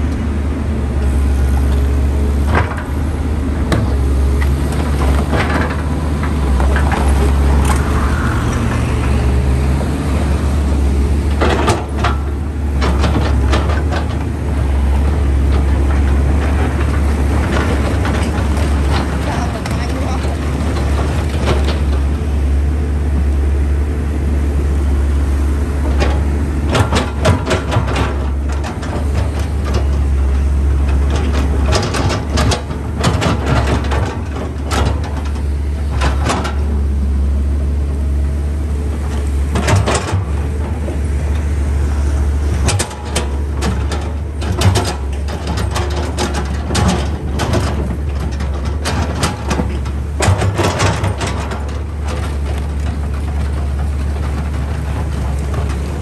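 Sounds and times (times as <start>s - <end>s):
excavator diesel engine running: 0.0s - 56.0s
excavator bucket clanking: 2.4s - 8.0s, 9.0s - 23.3s, 25.8s - 56.0s.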